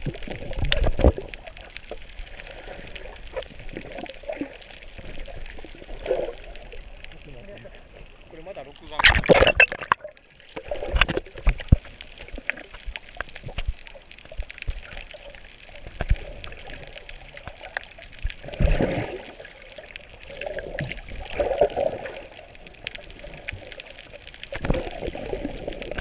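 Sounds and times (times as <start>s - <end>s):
muffled underwater trickling: 0.0s - 26.0s
small underwater clicks: 0.0s - 26.0s
water surges: 0.0s - 26.0s.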